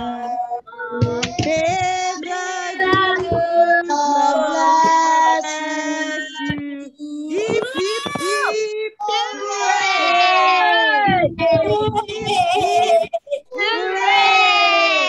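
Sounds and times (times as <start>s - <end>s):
children and women singing: 0.0s - 15.0s.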